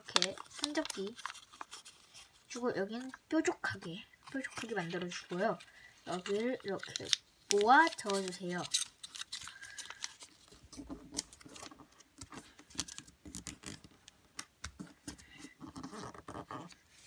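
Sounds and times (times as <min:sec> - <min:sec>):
paper being folded and creased: 0:00.0 - 0:17.0.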